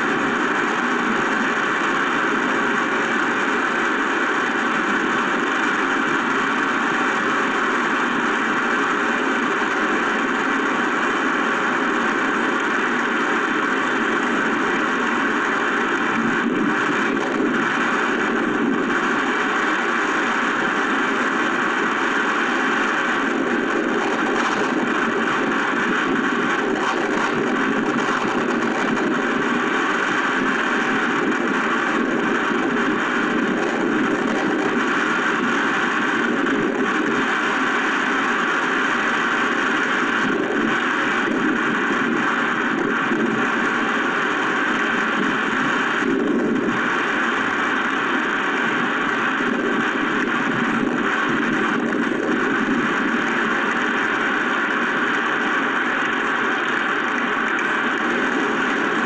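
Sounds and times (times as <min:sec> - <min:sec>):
heavy wind-driven rain: 0:00.0 - 0:59.0
strong wind: 0:00.0 - 0:59.0.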